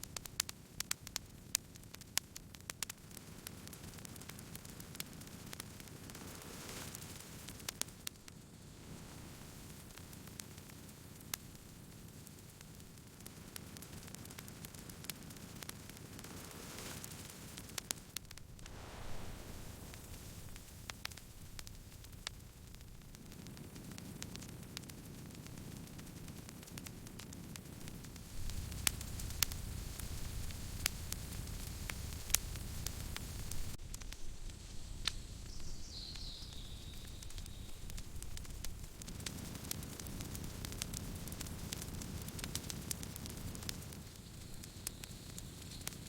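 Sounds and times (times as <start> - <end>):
campfire crackling: 0.0 - 46.0
flames rumbling: 0.3 - 46.0.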